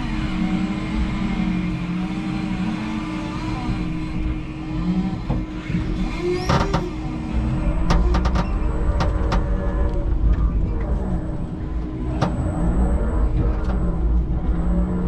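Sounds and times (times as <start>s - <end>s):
forklift motor hum and whine: 0.0s - 15.0s.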